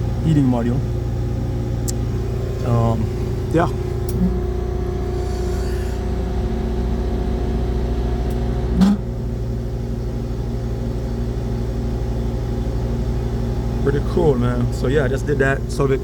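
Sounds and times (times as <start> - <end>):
rooftop hvac unit humming: 0.0 - 16.0.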